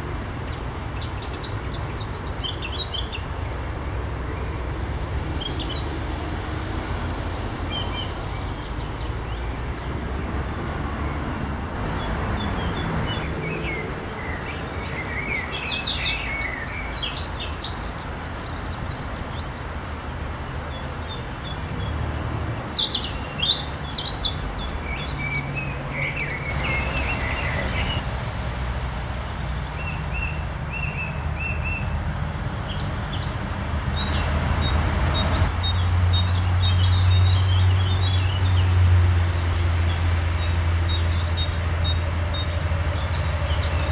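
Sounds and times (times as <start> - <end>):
songbirds chirping and trilling: 0.0 - 28.5, 29.1 - 43.9.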